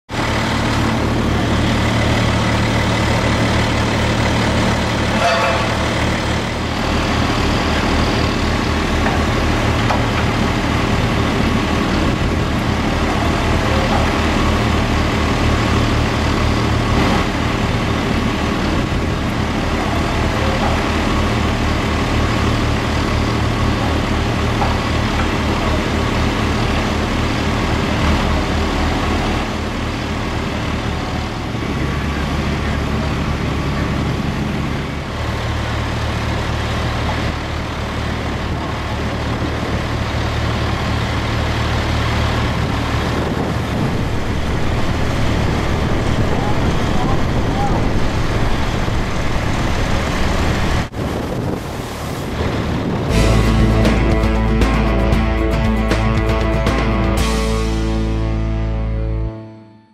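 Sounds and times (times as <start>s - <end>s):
diesel engine running: 0.1s - 59.6s.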